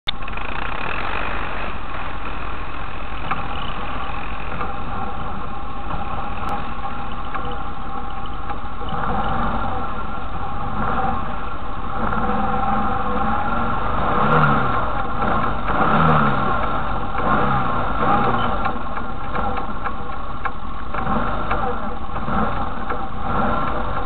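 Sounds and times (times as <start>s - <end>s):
atv engine running: 0.1s - 24.0s.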